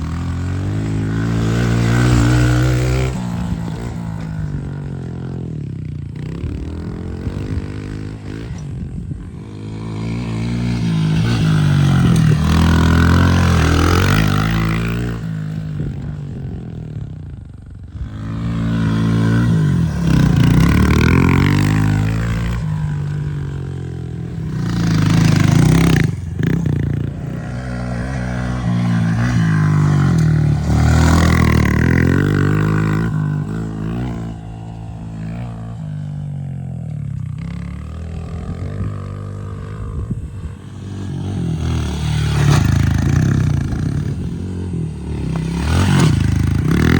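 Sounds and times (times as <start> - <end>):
dirt bike engine revving: 0.0 - 17.2, 17.8 - 46.9.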